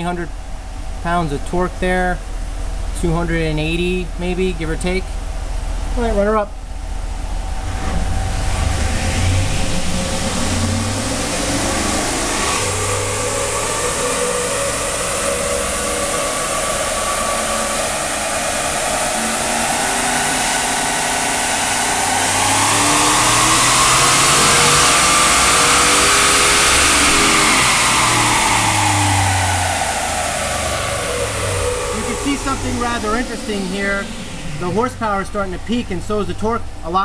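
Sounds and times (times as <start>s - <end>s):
engine revving at full throttle: 0.0s - 37.0s.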